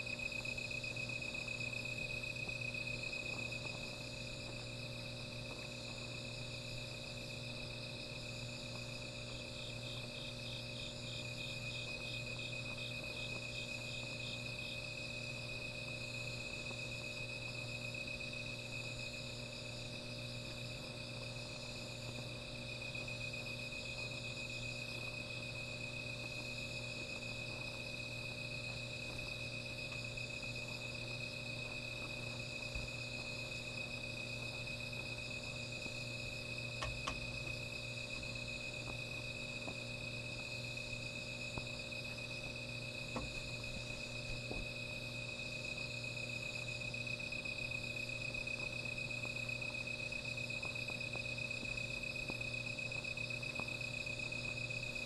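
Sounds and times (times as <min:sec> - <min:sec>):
insect chirping: 0:00.0 - 0:55.0
insects trilling: 0:00.0 - 0:55.0
steady low hum: 0:00.0 - 0:55.0.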